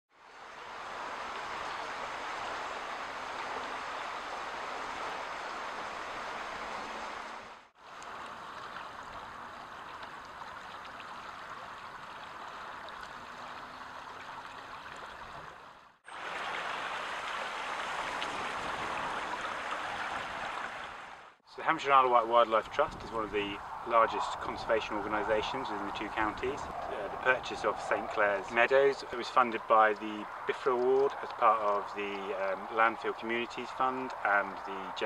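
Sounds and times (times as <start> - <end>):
stream flowing and rippling: 0.1 - 35.0.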